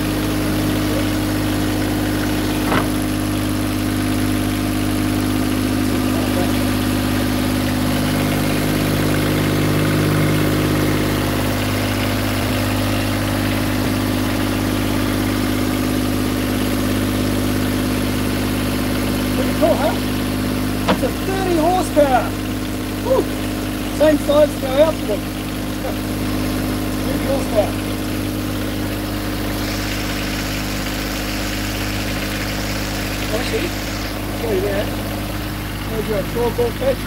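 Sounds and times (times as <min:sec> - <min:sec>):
marine diesel engine running: 0:00.0 - 0:37.0.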